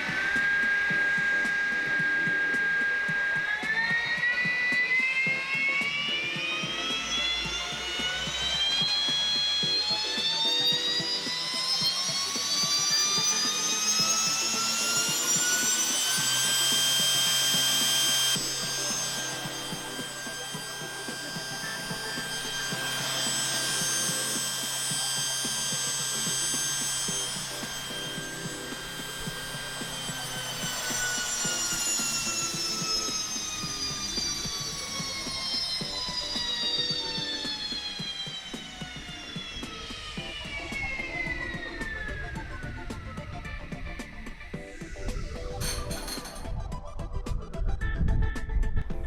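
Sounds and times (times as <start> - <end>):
hammer mill whine: 0.0 - 47.8.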